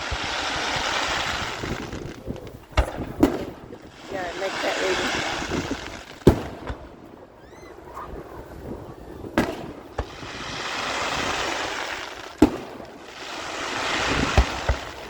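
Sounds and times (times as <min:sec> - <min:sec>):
faint fireworks pops: 0:00.0 - 0:15.0
fireworks bangs: 0:00.0 - 0:15.0
fireworks hiss: 0:00.0 - 0:15.0.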